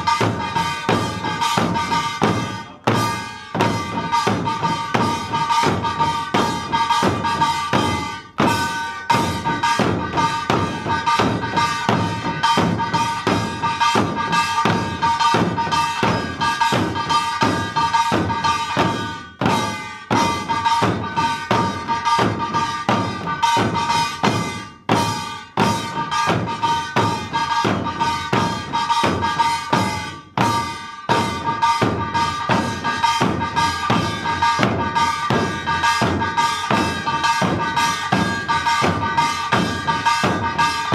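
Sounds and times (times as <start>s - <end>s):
barrel drums beating: 0.0s - 40.9s.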